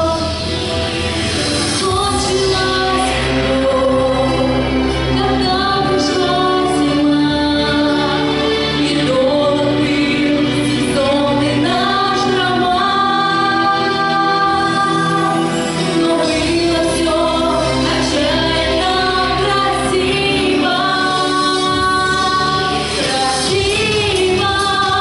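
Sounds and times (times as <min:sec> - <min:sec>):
instrumental backing with pulsing bass: 0:00.0 - 0:25.0
women singing: 0:01.6 - 0:25.0.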